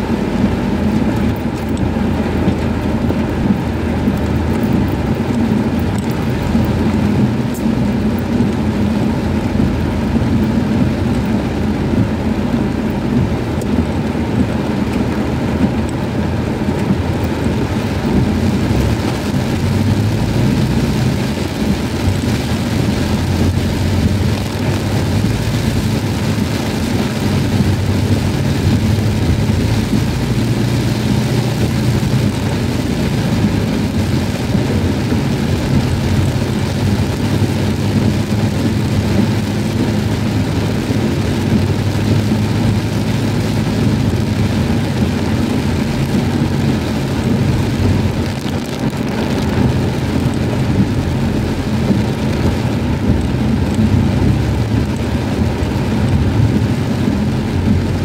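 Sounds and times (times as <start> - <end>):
car engine and road hum: 0.0 - 58.0
heavy rain on car roof: 0.0 - 58.0.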